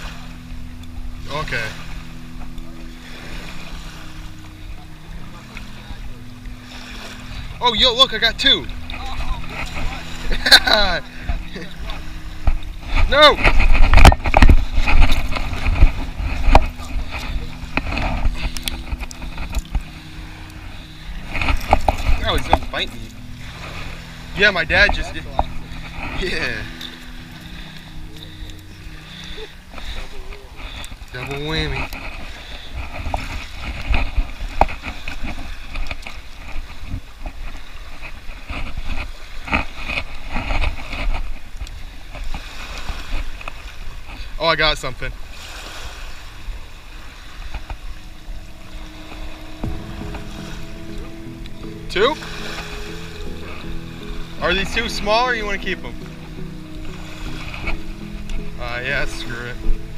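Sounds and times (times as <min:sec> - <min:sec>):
small waves washing at shore: 0:00.0 - 0:59.9
wind rumbling on microphone: 0:00.0 - 0:59.9.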